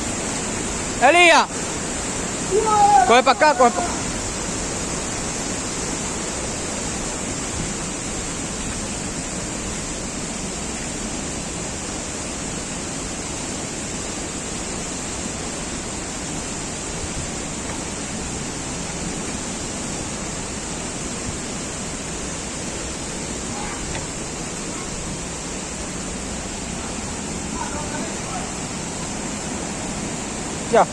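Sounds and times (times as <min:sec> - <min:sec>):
water rushing: 0:00.0 - 0:30.9.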